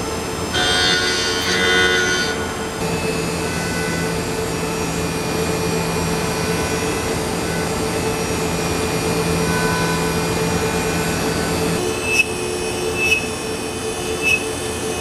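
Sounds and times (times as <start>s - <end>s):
lathe machining noise: 0.0s - 15.0s
machine whining tones: 0.0s - 15.0s.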